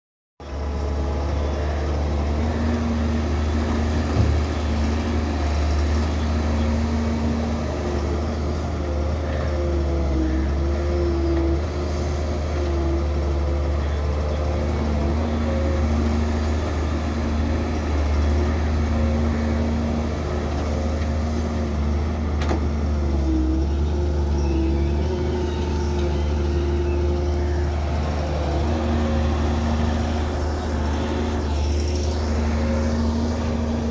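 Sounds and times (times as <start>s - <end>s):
excavator diesel engine drone: 0.4s - 33.9s.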